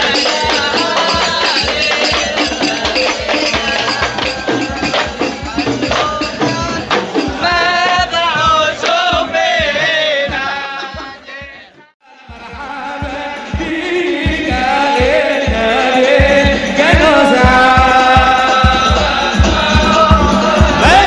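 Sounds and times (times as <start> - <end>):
group singing a chant: 0.0 - 21.0
steady drum beats: 0.0 - 21.0.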